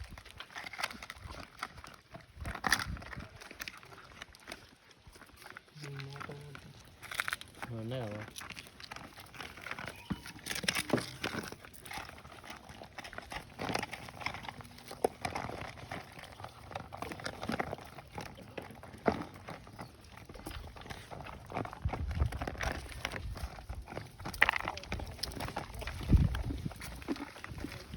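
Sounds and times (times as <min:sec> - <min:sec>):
dogs chewing and smacking: 0:00.0 - 0:27.9.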